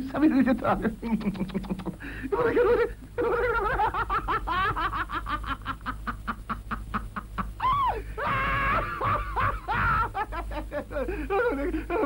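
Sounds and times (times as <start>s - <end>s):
cartoon character giggling: 1.1s - 12.0s.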